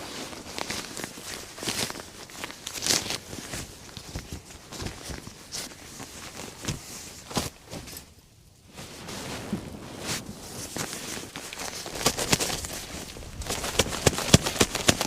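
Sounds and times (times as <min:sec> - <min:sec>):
rustling of bedding and gear: 0:00.0 - 0:15.0.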